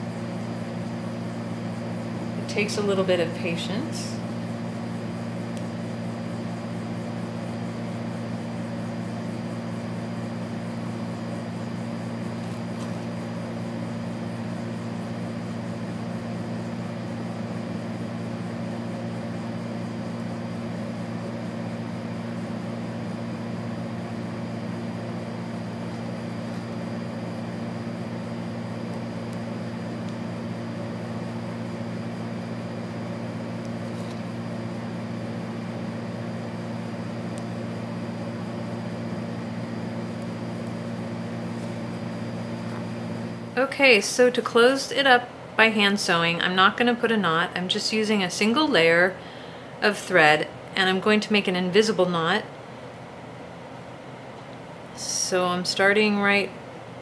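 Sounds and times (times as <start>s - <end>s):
low mechanical hum: 0.0s - 57.0s.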